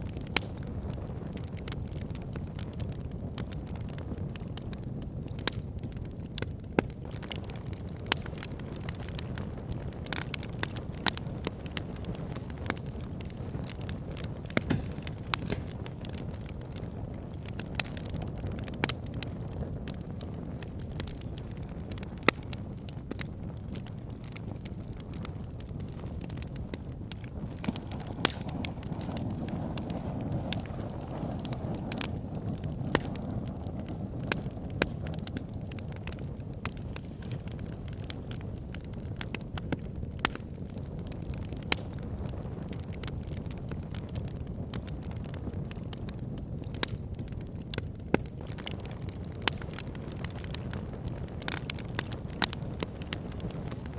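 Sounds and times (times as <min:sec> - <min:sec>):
fire burning: 0:00.0 - 0:53.9
fire crackling and popping: 0:00.0 - 0:53.9.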